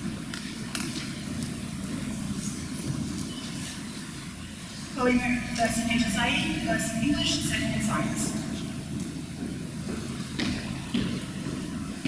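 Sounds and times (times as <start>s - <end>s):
low rumble of hall room noise: 0.0s - 12.0s.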